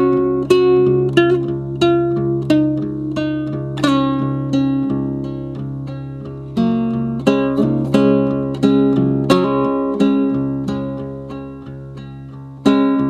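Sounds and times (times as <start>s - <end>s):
acoustic guitar plucking: 0.0s - 13.0s.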